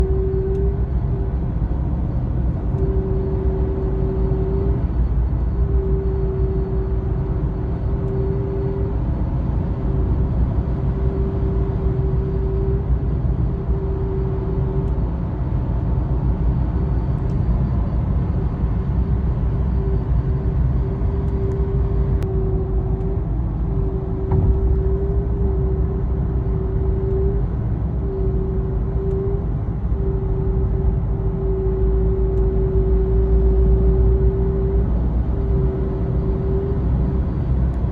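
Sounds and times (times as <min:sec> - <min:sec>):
brake humming tone: 0:00.0 - 0:37.9
road and engine rumble: 0:00.0 - 0:37.9.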